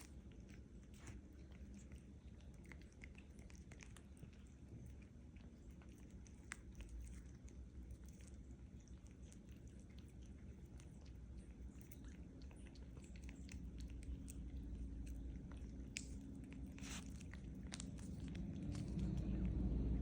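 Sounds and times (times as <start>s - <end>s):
kittens chewing and crunching treats: 0.0s - 20.0s.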